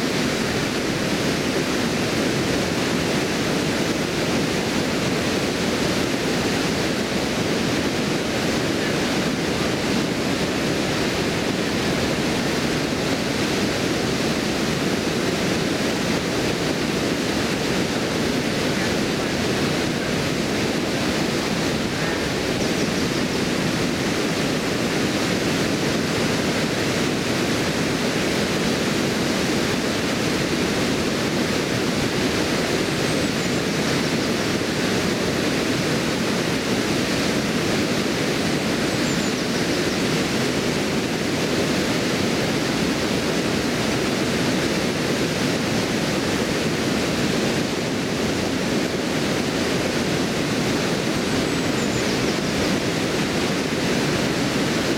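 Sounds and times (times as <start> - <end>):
water rushing over a weir: 0.0 - 54.9.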